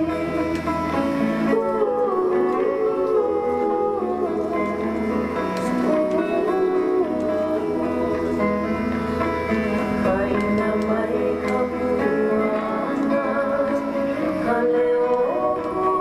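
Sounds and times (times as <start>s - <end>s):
hula song over loudspeaker: 0.0s - 16.0s
person singing: 0.0s - 16.0s
plucked strings: 0.0s - 16.0s.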